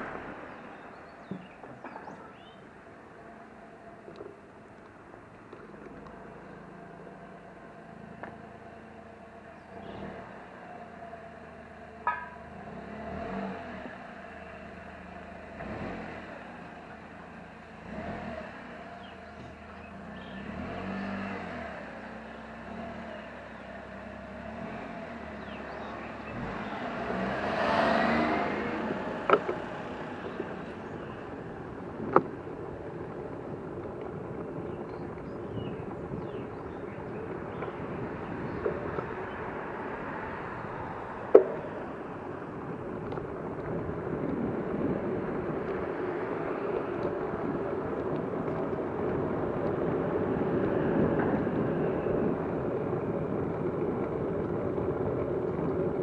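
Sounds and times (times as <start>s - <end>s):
car passing: 0.0s - 56.0s
street traffic: 0.0s - 56.0s.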